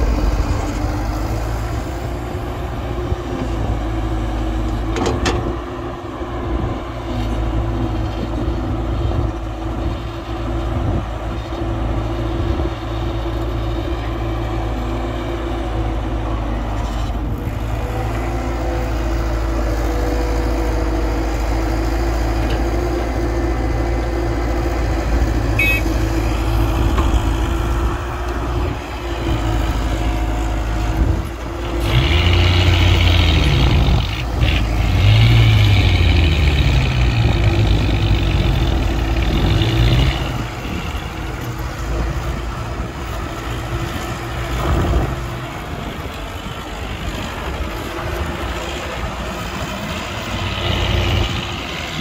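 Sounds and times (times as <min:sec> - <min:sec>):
diesel engine rumbling: 0:00.0 - 0:52.0.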